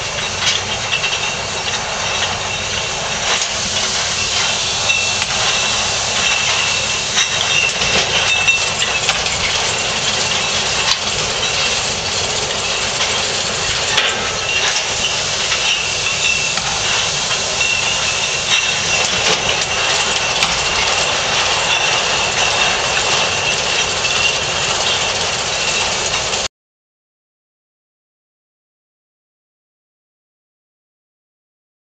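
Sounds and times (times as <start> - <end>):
glass bottles clinking: 0.0 - 26.4
bottling machine whine and hiss: 0.0 - 26.5.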